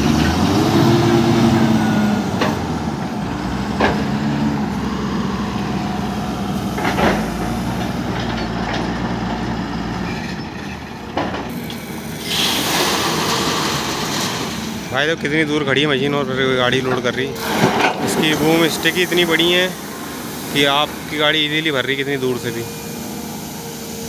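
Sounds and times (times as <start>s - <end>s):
diesel truck engine revving: 0.0s - 24.0s
gravel pouring rush: 0.0s - 24.0s.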